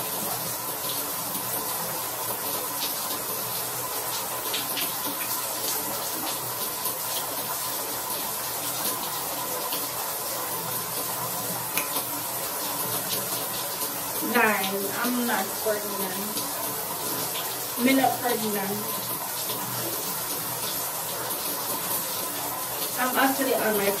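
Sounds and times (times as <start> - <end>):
water running from tap: 0.0 - 24.0.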